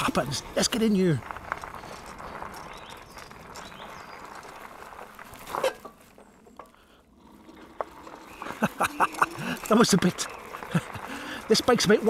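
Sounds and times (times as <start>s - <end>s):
bike rolling over rough ground: 0.0s - 12.0s.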